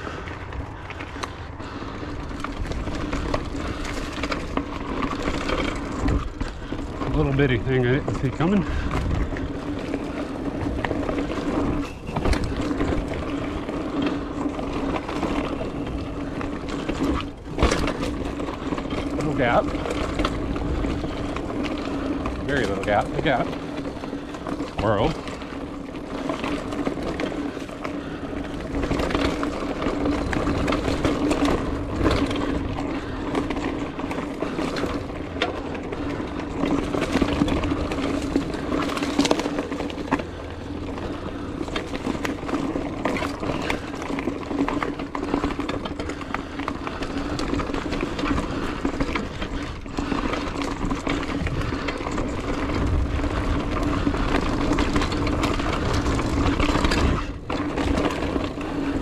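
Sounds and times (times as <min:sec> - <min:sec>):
bike rattling over bumps: 0:00.0 - 0:59.0
bike tyres crunching over leaves: 0:00.0 - 0:59.0.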